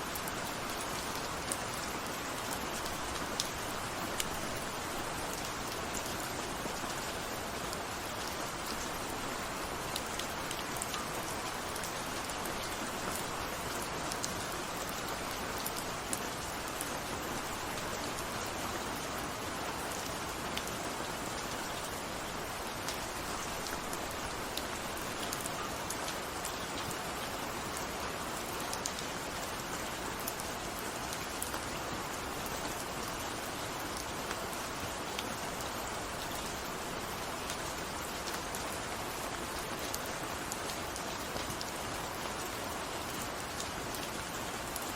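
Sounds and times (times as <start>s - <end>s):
raindrops ticking on a surface: 0.0s - 44.9s
steady rain falling: 0.0s - 44.9s.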